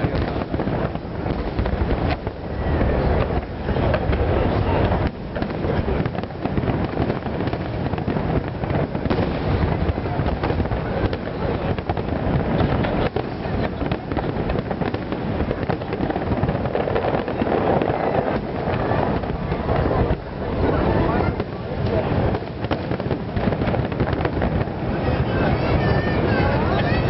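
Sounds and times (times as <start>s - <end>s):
fireworks crackling: 0.0s - 27.0s.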